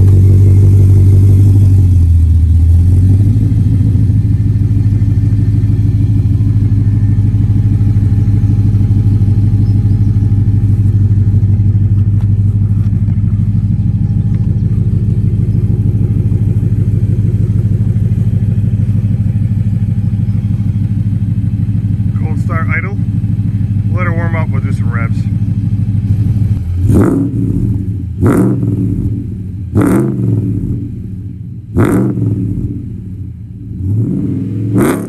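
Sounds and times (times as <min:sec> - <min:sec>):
truck engine idling: 0:00.0 - 0:28.2.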